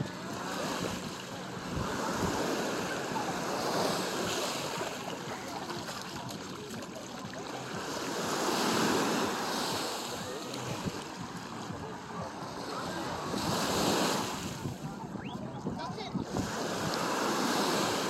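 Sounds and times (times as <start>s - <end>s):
small waves washing over sand: 0.0s - 14.9s, 16.2s - 18.0s.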